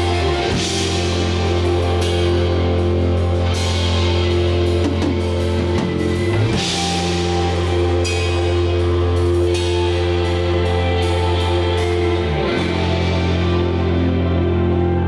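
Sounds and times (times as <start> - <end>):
electric guitars and bass chord: 0.0 - 15.0.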